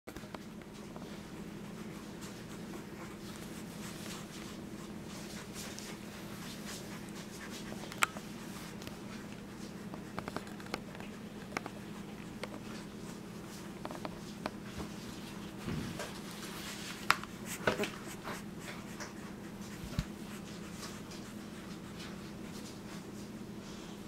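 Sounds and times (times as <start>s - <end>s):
puppy rustling on blanket: 0.7s - 23.8s.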